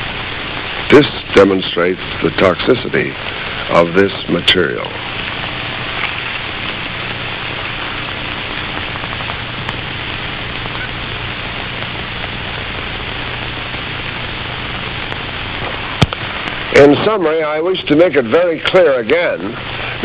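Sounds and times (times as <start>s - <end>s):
film soundtrack hiss: 0.0s - 20.0s
low mains hum: 0.0s - 20.0s.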